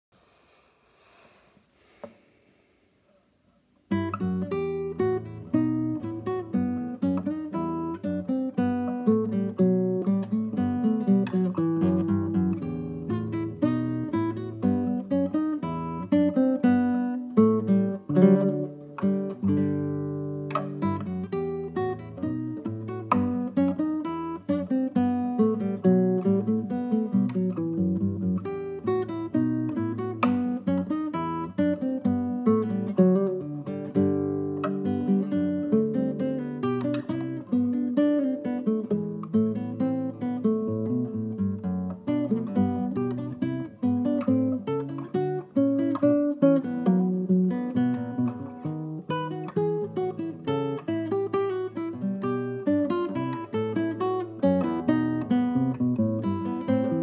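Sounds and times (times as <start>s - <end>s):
classical guitar fingerstyle: 3.8s - 57.0s.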